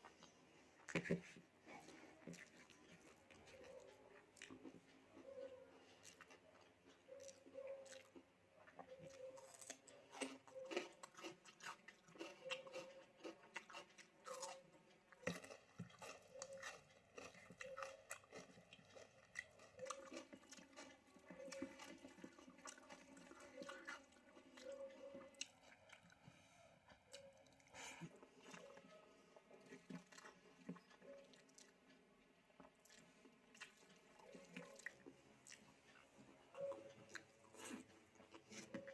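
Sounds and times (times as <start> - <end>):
chewing food with crunches: 0.0 - 38.9.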